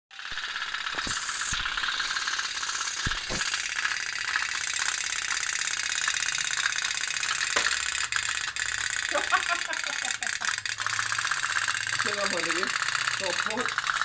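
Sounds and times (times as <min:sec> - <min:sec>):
toy boat engine puttering: 0:00.2 - 0:14.0.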